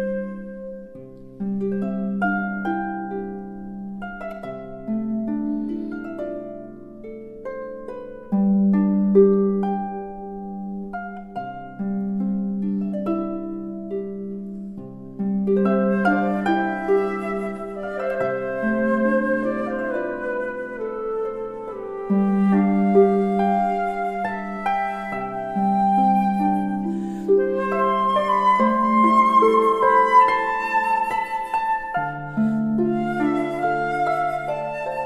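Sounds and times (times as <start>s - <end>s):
plucked harp-like melody: 0.0s - 35.0s.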